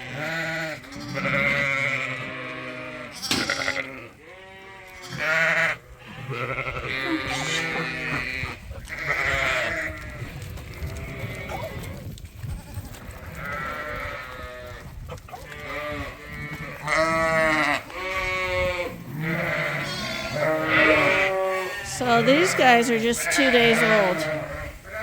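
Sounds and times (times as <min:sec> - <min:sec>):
sheep and lambs bleating: 0:00.0 - 0:25.0.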